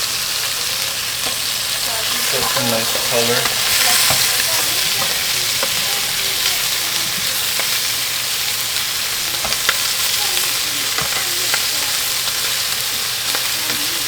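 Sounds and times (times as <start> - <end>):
chicken sizzling in a pot: 0.0 - 14.0.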